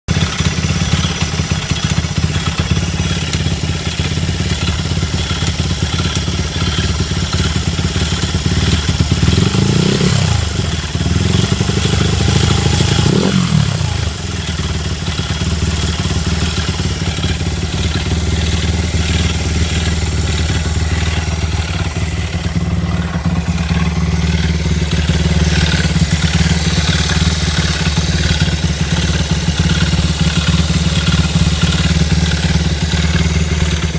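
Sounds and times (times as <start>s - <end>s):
motorcycle engine idling and rattling: 0.0s - 33.9s.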